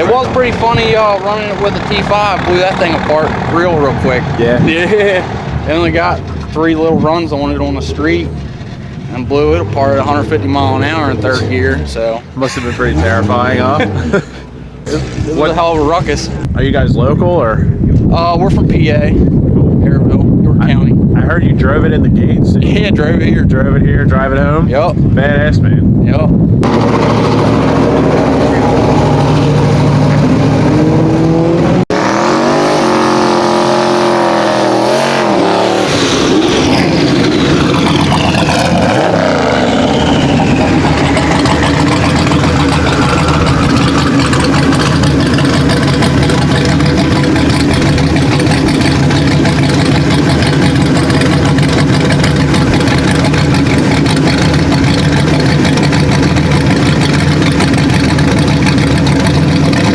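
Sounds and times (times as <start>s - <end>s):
car engine revving: 0.0s - 19.6s, 26.4s - 59.9s.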